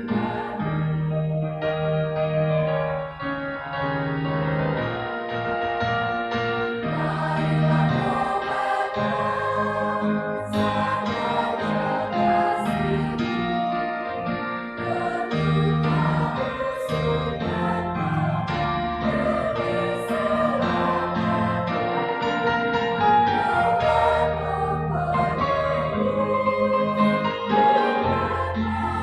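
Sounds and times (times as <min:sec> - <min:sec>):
church choir singing a hymn: 0:00.0 - 0:29.0.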